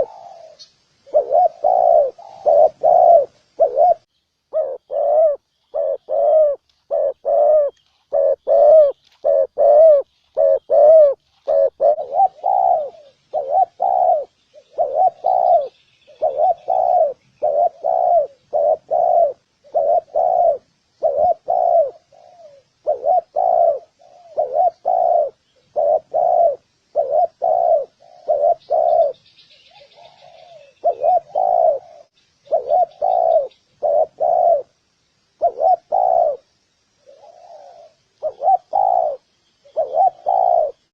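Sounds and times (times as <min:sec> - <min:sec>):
doves cooing: 0:00.0 - 0:34.8, 0:35.4 - 0:40.9
small birds chirping: 0:00.0 - 0:40.9.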